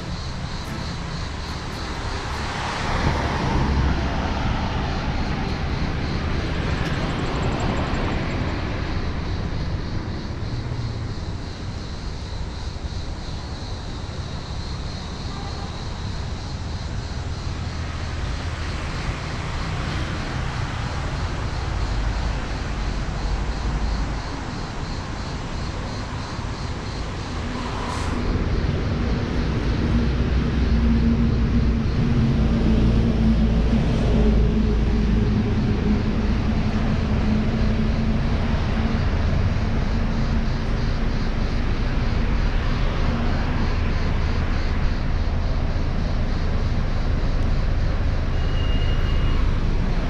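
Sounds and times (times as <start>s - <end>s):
street traffic passing: 0.0s - 50.0s.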